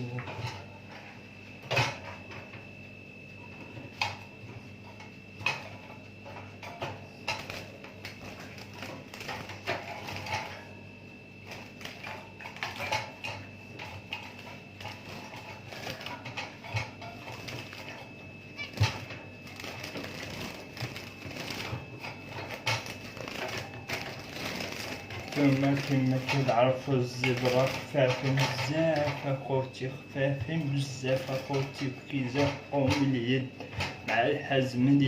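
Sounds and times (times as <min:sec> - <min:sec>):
birds fluttering: 0:03.5 - 0:10.8, 0:11.4 - 0:34.9
cage clicks and rattles: 0:03.8 - 0:10.8, 0:11.4 - 0:29.4, 0:31.0 - 0:34.2.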